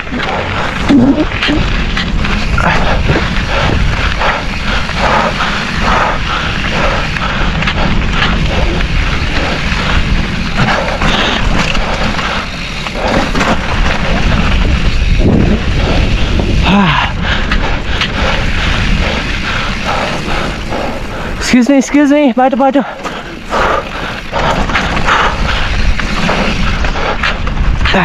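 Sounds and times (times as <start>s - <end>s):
bike chain and frame rattling: 0.0s - 28.0s
wind buffeting microphone: 0.0s - 28.0s.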